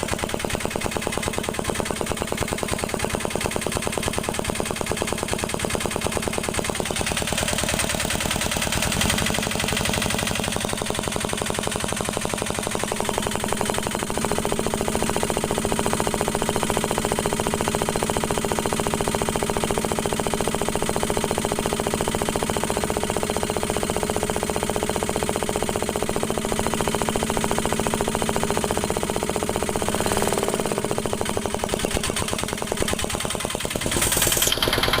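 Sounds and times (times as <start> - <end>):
engine running with rapid firing: 0.0 - 35.0.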